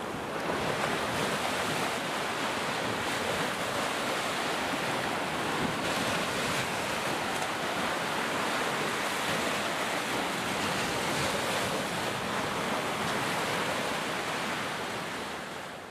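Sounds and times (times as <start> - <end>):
waves breaking on beach: 0.0 - 15.9.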